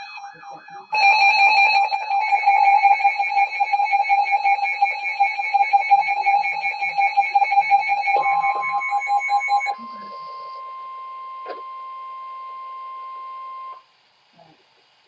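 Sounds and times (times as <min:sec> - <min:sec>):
rapidly pulsing alarm beeps: 0:00.0 - 0:13.7
steady attention tone: 0:00.0 - 0:13.8.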